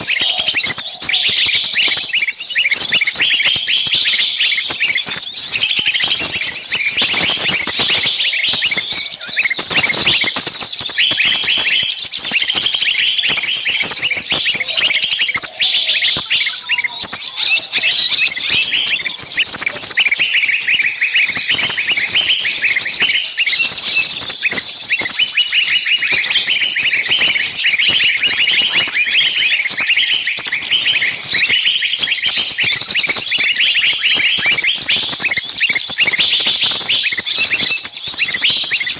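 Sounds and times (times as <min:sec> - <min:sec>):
songbirds chirping and screeching: 0:00.0 - 0:38.9.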